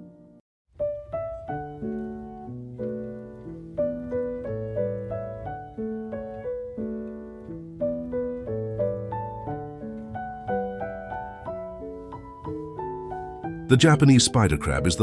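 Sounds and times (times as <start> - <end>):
gentle piano piece: 0.0 - 15.0.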